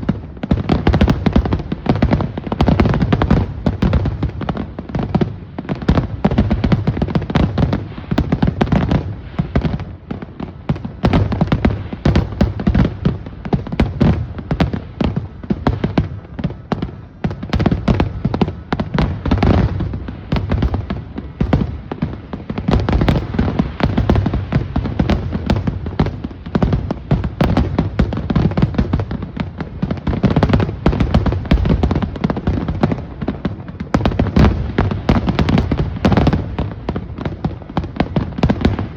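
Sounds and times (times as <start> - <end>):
fireworks booming and crackling: 0.0 - 38.9.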